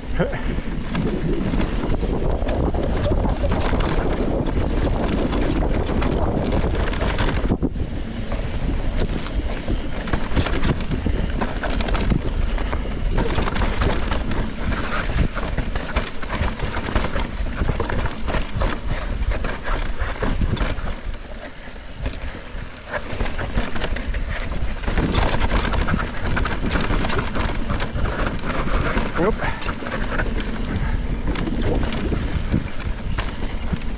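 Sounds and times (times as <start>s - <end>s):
bike clicks and rattles: 0.0s - 33.9s
tyres rolling on loose dirt: 0.0s - 33.9s
wind buffeting microphone: 0.0s - 33.9s.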